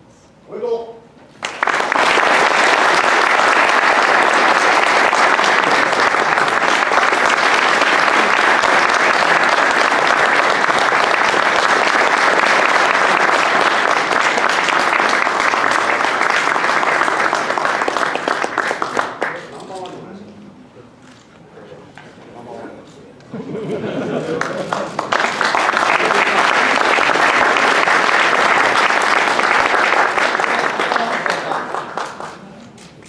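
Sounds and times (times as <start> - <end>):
audience applauding: 1.4 - 19.5, 23.8 - 32.8.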